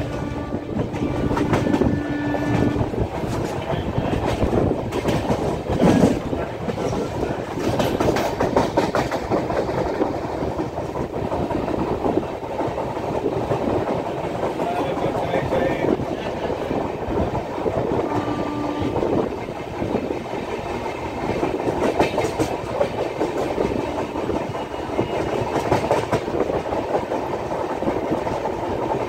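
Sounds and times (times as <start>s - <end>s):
train wheels rolling on rails: 0.0s - 29.0s
wind rush: 0.0s - 29.0s.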